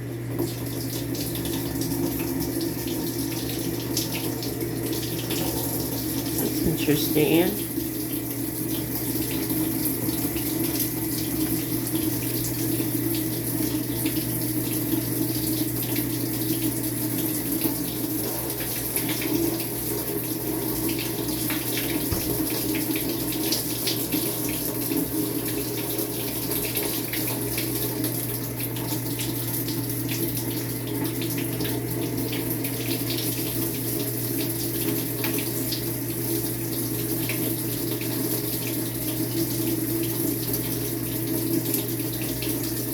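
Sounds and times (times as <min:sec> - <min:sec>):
washing machine low hum: 0:00.0 - 0:42.9
water rushing in washing machine: 0:00.0 - 0:42.9.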